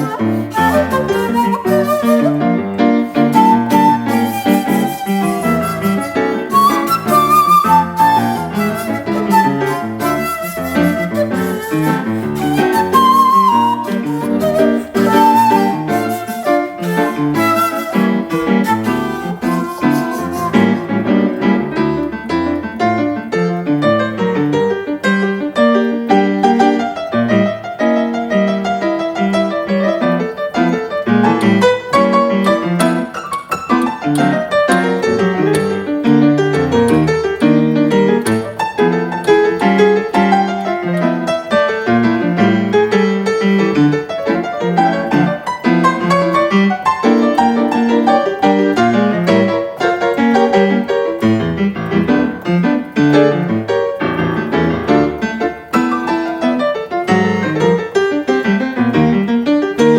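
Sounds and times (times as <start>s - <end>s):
piano playing quick notes: 0.0s - 59.9s.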